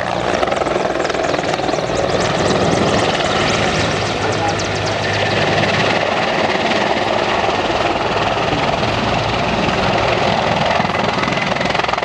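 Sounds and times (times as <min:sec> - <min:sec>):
helicopter rotor beating: 0:00.0 - 0:12.0
turboshaft engines running: 0:00.0 - 0:12.0.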